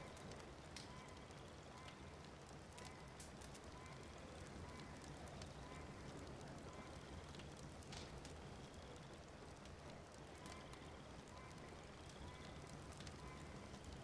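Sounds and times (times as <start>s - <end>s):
wood fire crackling: 0.1s - 14.0s.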